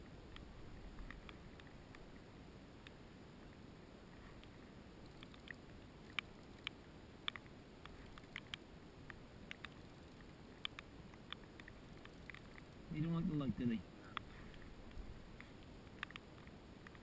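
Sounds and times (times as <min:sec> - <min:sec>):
hiss of wind and water: 0:00.0 - 0:17.0.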